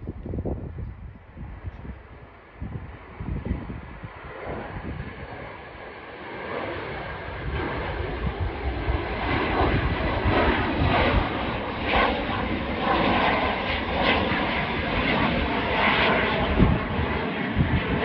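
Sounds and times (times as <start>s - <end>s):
airplane engines at takeoff: 0.0s - 18.0s.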